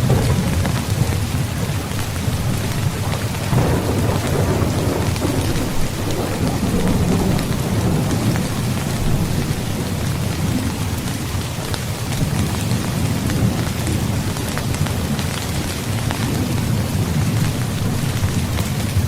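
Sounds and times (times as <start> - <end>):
heavy rain pattering: 0.0 - 19.0
rolling thunder: 0.0 - 19.0.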